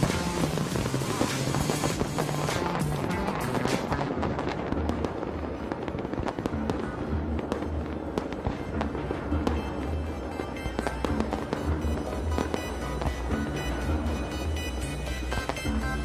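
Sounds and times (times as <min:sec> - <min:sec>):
music with steady bass: 0:00.0 - 0:05.2, 0:06.5 - 0:16.0
fireworks cracking and popping: 0:00.0 - 0:16.0.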